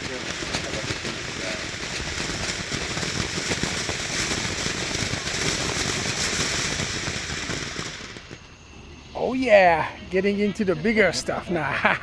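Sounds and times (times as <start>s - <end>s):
fireworks crackling: 0.0s - 12.0s
fireworks hiss: 0.0s - 12.0s.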